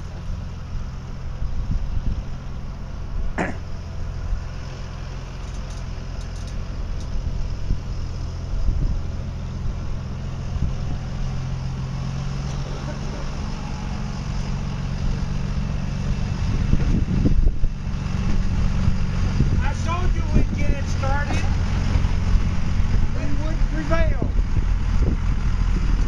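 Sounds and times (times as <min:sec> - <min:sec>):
railcar engine humming: 0:00.0 - 0:26.0
railcar rolling on track: 0:03.9 - 0:07.7, 0:08.3 - 0:26.0.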